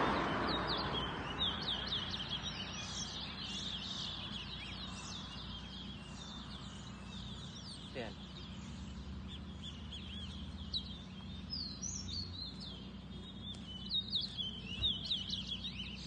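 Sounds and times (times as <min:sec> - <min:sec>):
finches singing: 0:00.0 - 0:16.0
low background rumble: 0:00.0 - 0:16.0.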